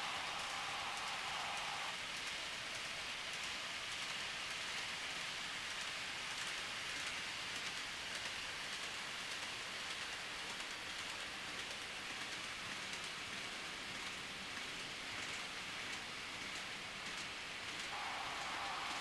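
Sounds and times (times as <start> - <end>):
train running on track: 0.0 - 19.0.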